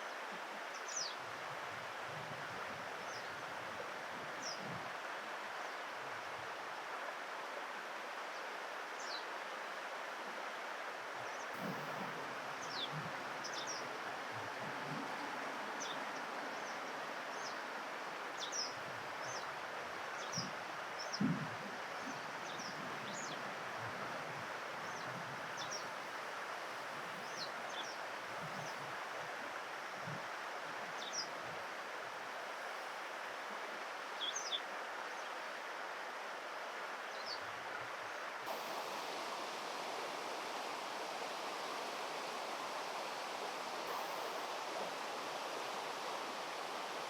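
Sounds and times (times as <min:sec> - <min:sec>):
flowing river water: 0:00.0 - 0:47.0.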